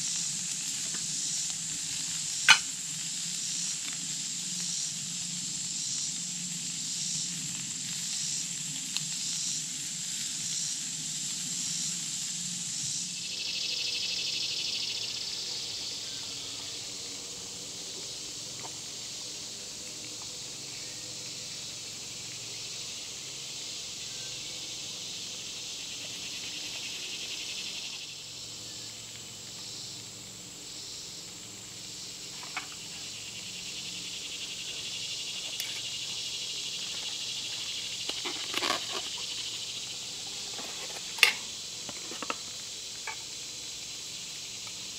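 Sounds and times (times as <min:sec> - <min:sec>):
food frying hiss: 0:00.0 - 0:44.9
insects calling: 0:00.0 - 0:44.9.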